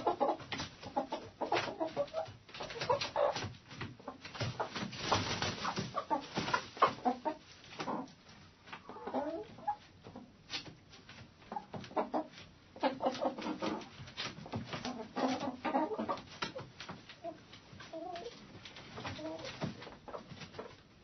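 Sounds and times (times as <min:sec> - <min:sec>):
hens clucking: 0:00.0 - 0:20.8
scratching and small knocks: 0:00.0 - 0:20.9.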